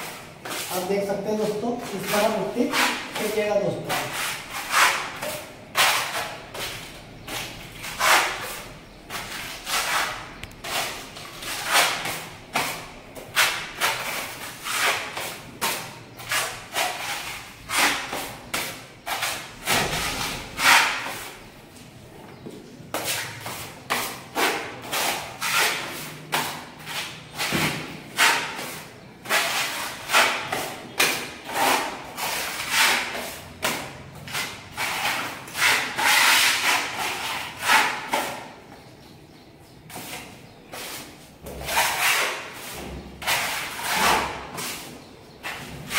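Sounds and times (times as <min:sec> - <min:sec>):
putty blade scraping wall: 0:01.4 - 0:21.4, 0:22.3 - 0:38.6, 0:39.9 - 0:45.9.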